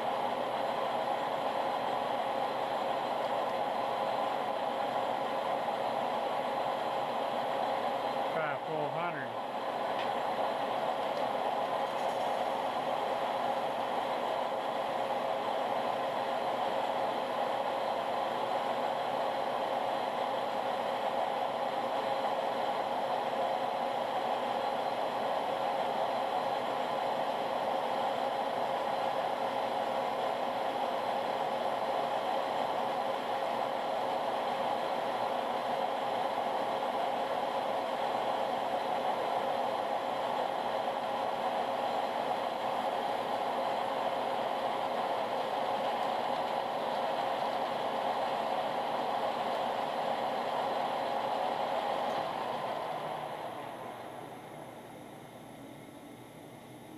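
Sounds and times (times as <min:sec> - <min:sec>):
metal lathe whirring: 0:00.0 - 0:56.9.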